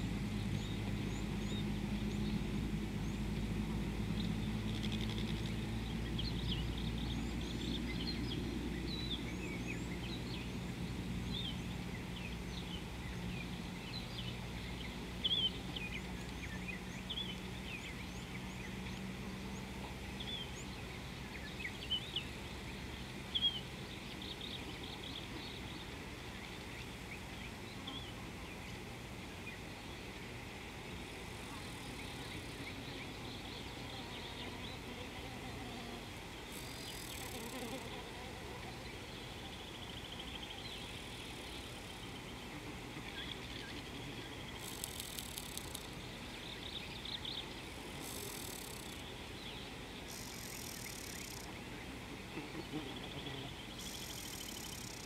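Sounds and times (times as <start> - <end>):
small birds chirping: 0.0 - 30.3, 31.1 - 55.0
low steady hum: 0.0 - 55.0.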